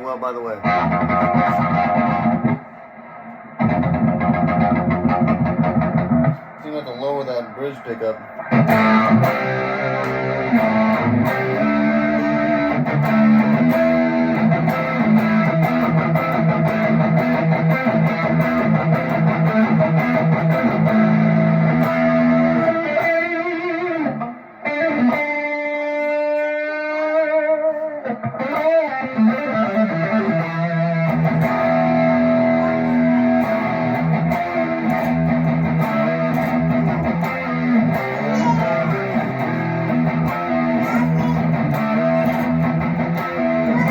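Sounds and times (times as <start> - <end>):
electric guitar through an amp: 0.0 - 43.9.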